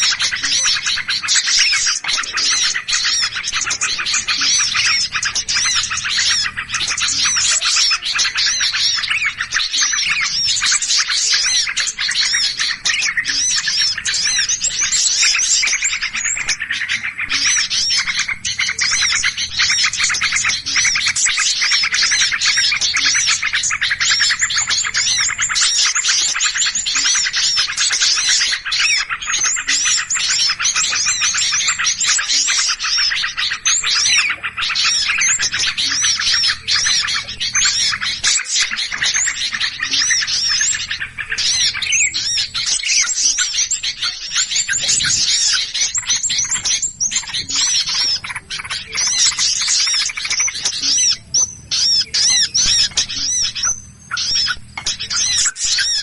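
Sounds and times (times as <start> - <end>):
small birds chirping in alarm: 0.0 - 56.0.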